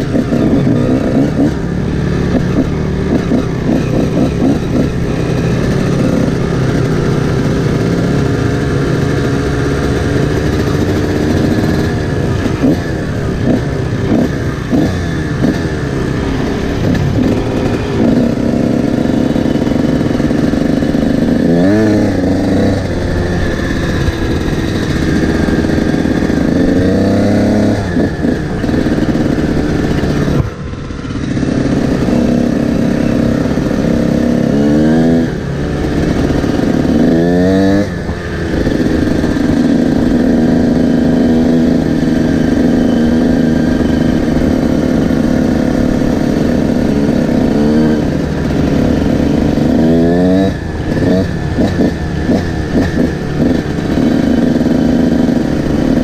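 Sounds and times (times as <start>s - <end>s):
two-stroke dirt bike engine revving: 0.0s - 56.0s.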